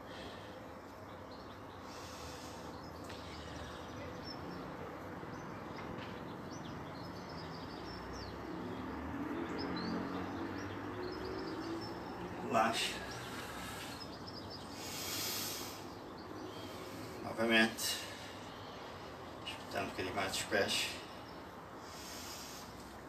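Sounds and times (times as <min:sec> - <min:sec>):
outdoor background noise: 0:00.0 - 0:23.0
small birds chirping: 0:00.0 - 0:23.0.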